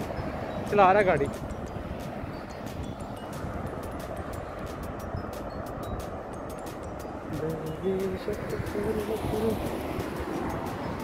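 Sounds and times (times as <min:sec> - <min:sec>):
highway traffic rushing: 0:00.0 - 0:11.0
wind buffeting microphone: 0:00.0 - 0:11.0.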